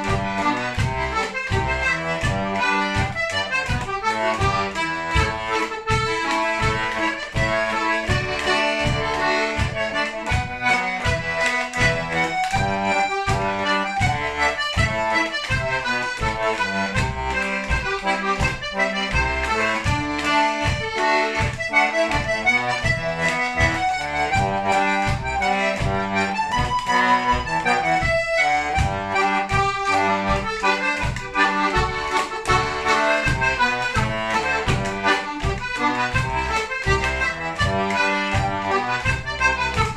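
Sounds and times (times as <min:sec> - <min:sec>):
button accordion playing lively tune: 0:00.0 - 0:39.9.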